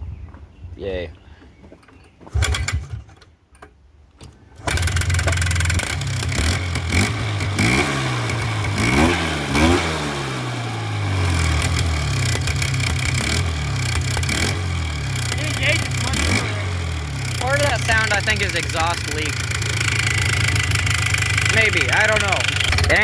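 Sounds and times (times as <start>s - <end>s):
atv engine starting and revving: 2.3s - 3.6s, 4.5s - 23.0s.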